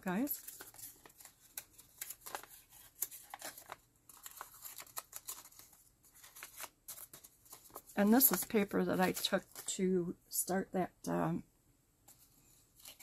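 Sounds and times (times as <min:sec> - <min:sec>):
paper rustling and crinkling: 0:00.0 - 0:09.8, 0:12.1 - 0:13.0.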